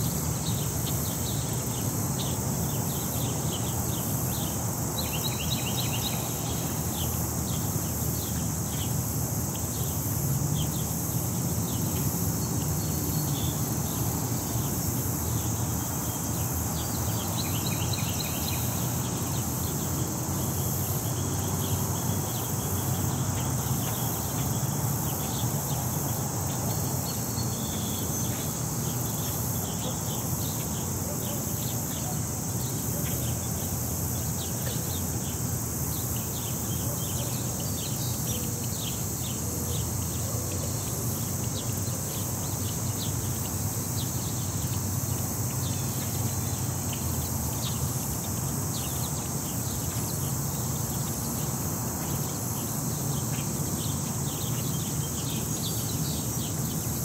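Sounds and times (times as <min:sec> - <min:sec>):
insect drone: 0:00.0 - 0:57.0.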